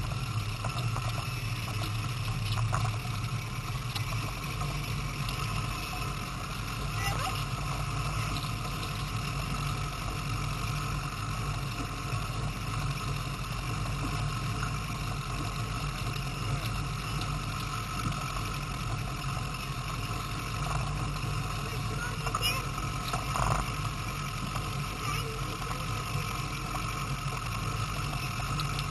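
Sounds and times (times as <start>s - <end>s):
outboard motor running: 0.0s - 28.9s
water noise: 0.0s - 28.9s.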